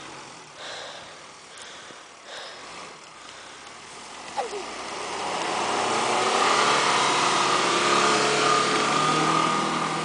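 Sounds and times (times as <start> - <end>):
car engine at high revs: 0.0 - 10.0
tyres churning snow: 0.0 - 10.0.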